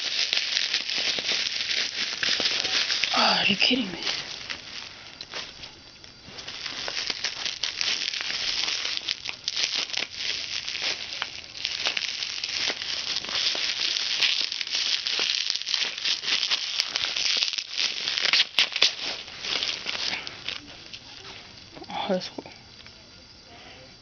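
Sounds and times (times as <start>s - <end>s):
bubble wrap snapping: 0.0s - 21.4s
bubble wrap crinkling: 0.0s - 21.8s.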